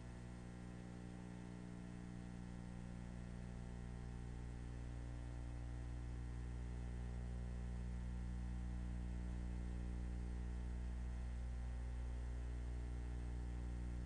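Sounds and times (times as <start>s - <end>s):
low hum with faint hiss: 0.0s - 14.0s.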